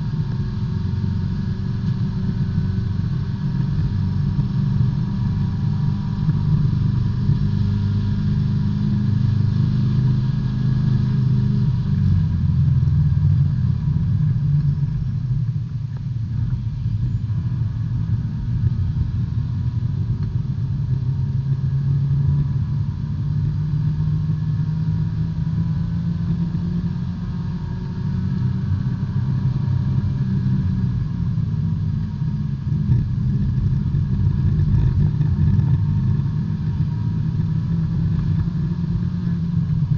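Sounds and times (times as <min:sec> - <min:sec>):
race car engine from inside cabin: 0:00.0 - 0:39.9.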